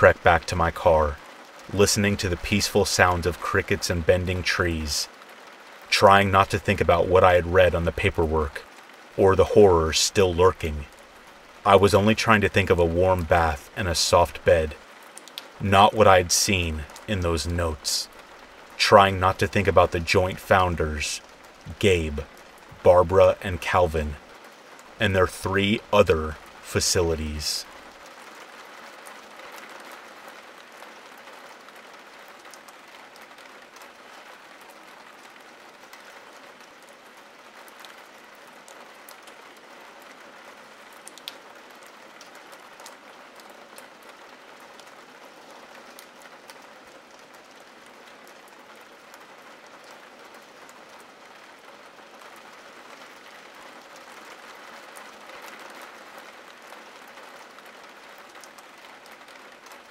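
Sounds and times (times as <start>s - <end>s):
rain on window glass: 0.0s - 59.9s
raindrops ticking: 0.0s - 59.9s.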